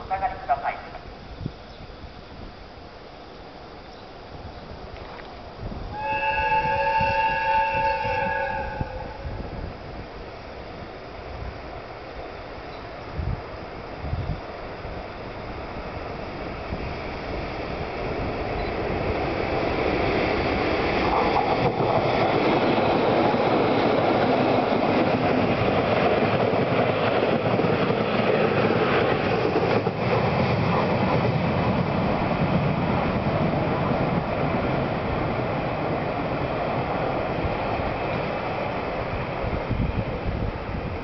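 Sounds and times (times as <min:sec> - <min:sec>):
train wheels on rail: 0:05.6 - 0:41.0.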